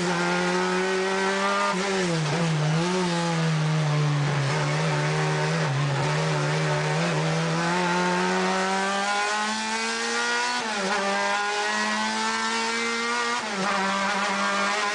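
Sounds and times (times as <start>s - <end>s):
race car engine accelerating: 0.0s - 14.9s.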